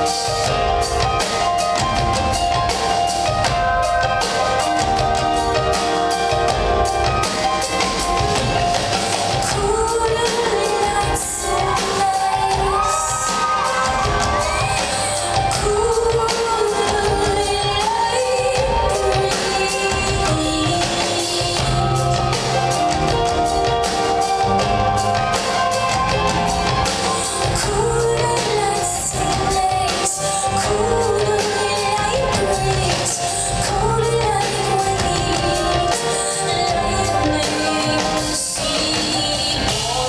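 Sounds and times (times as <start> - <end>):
live band playing: 0.0 - 40.0
steady drum beat: 0.0 - 40.0
woman singing: 0.0 - 40.0.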